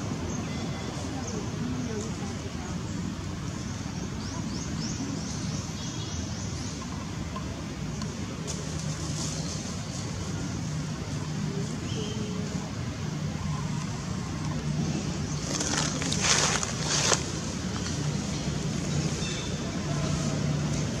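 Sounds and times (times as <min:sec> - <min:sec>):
rustling hiss: 0:00.0 - 0:21.0.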